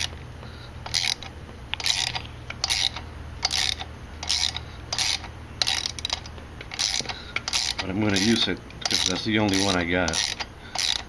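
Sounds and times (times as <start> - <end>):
ratchet pawl clicking: 0.8 - 11.0.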